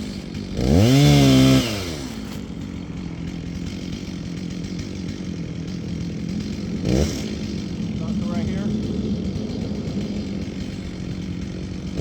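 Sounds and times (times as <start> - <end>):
chainsaw revving and idling: 0.0 - 12.0.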